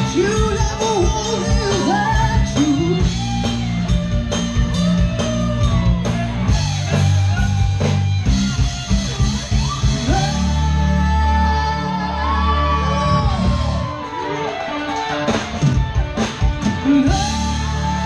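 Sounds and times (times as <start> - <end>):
drum kit beat: 0.0 - 11.2, 13.3 - 18.0
bass guitar: 0.0 - 18.0
electric guitar: 0.0 - 18.0.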